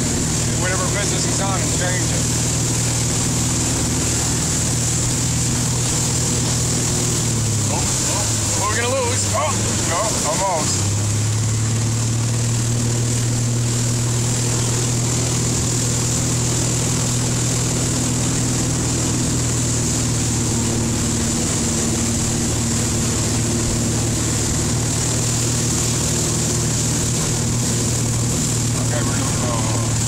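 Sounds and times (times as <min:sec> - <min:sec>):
churning water: 0:00.0 - 0:30.0
motorboat engine hum: 0:00.0 - 0:30.0.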